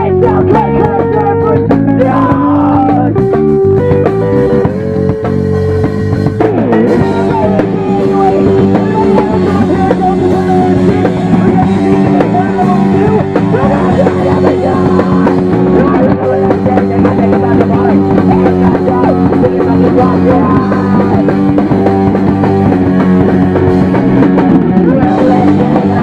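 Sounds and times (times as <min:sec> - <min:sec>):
drum kit pounding: 0:00.0 - 0:26.0
electric guitar: 0:00.0 - 0:26.0.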